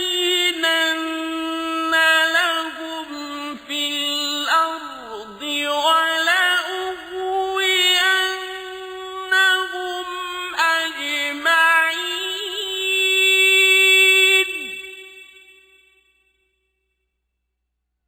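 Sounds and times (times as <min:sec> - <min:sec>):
man chanting melodically: 0:00.0 - 0:15.5.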